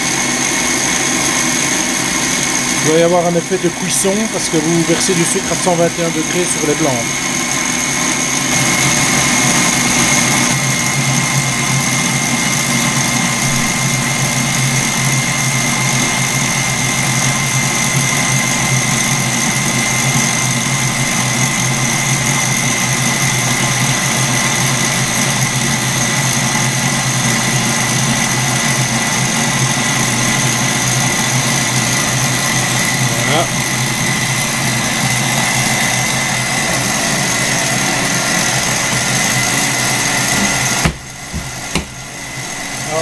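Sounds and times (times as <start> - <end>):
stand mixer whining: 0.0 - 43.0.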